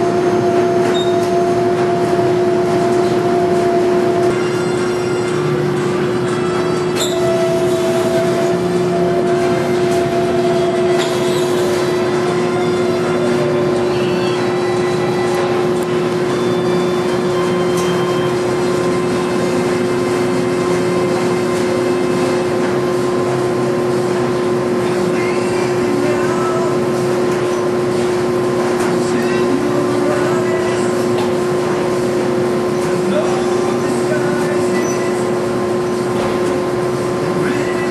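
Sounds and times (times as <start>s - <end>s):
machine hum: 0.0s - 37.9s
washing machine drum turning: 0.0s - 37.9s.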